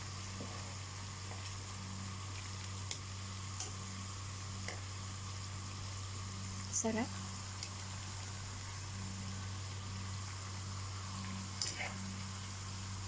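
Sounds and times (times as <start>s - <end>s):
oil sizzling in deep fryer: 0.0s - 13.0s.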